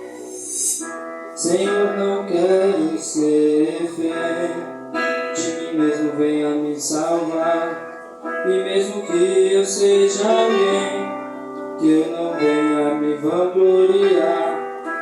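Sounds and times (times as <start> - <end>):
person singing: 0.0 - 15.0
worship band with guitar: 0.0 - 15.0.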